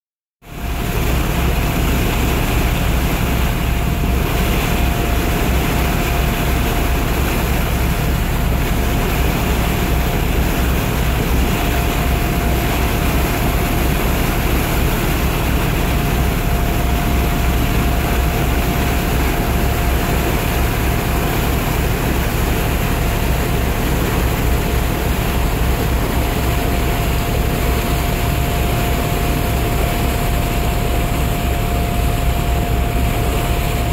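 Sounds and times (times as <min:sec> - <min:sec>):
boat engine running: 0:00.4 - 0:33.9.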